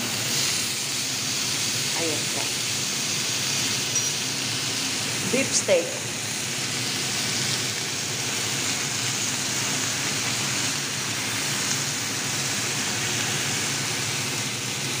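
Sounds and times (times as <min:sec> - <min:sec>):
steak sizzling in a grill pan: 0:00.0 - 0:15.0.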